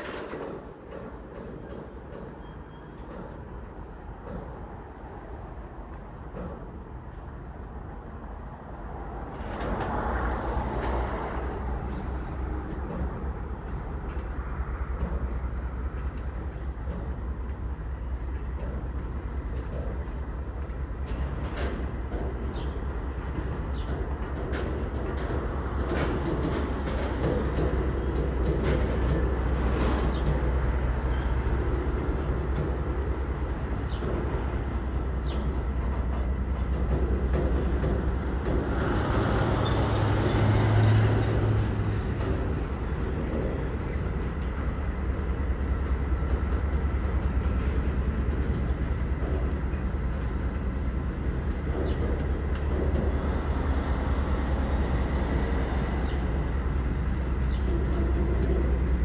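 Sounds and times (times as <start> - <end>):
freight train rumbling on rails: 0.0 - 59.0
wheels clicking over rail joints: 0.0 - 59.0.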